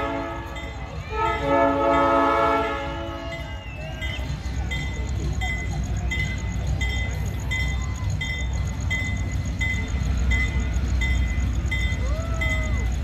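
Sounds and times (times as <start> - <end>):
locomotive engine rumbling: 0.0 - 13.0.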